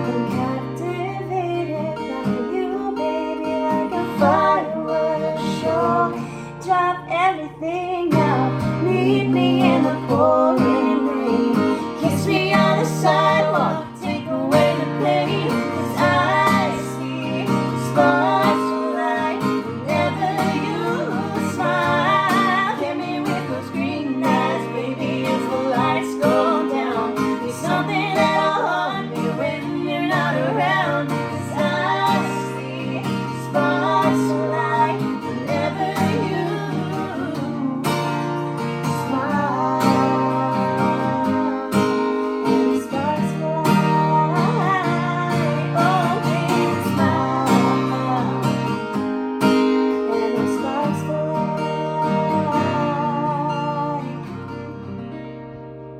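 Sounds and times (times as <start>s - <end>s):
woman singing: 0.0s - 54.6s
strummed acoustic guitar: 0.0s - 55.9s.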